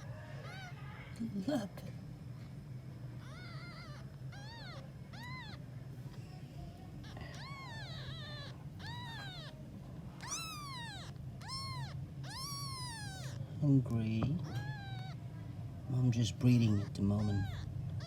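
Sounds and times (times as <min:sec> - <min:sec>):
newborn kittens mewing: 0:00.0 - 0:18.0.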